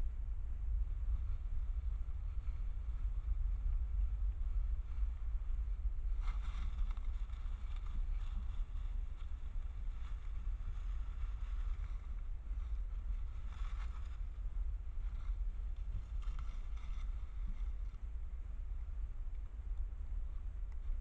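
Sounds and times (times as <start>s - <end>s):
wind rumble on microphone: 0.0s - 21.0s
rustling in dry leaves: 1.1s - 18.6s.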